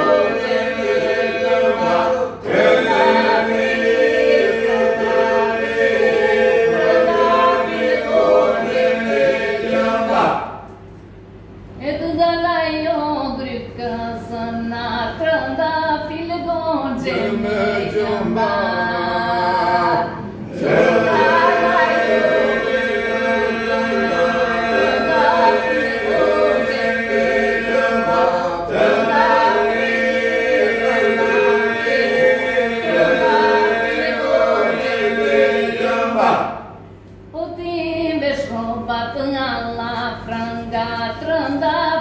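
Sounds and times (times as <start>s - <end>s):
group singing a drone: 0.0s - 11.0s, 13.8s - 37.4s, 38.2s - 42.0s.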